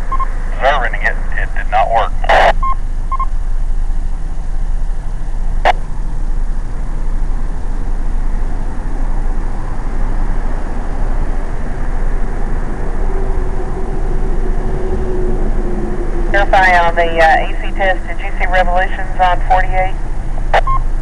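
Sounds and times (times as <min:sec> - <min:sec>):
faint steady hum: 0:00.0 - 0:21.0
low rumble of vehicle: 0:00.0 - 0:21.0.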